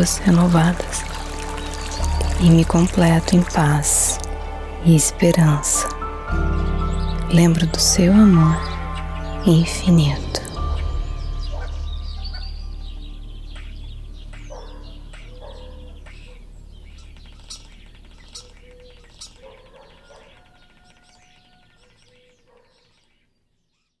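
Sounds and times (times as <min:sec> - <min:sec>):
birds chirping and calling: 0:00.0 - 0:24.0.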